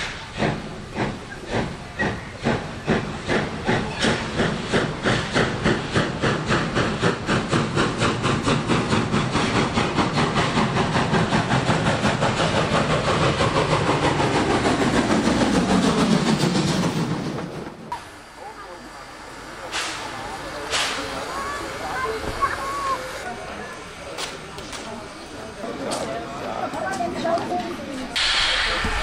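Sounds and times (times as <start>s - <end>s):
steam locomotive exhaust chuffing: 0.0s - 29.0s.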